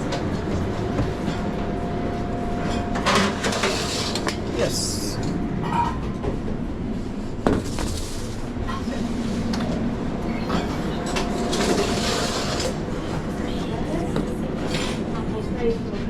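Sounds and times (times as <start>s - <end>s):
low kitchen rumble: 0.0s - 15.5s.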